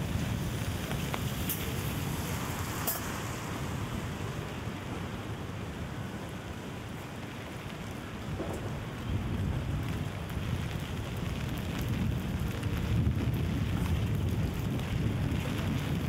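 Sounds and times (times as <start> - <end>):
steady rain hissing: 0.0 - 16.0.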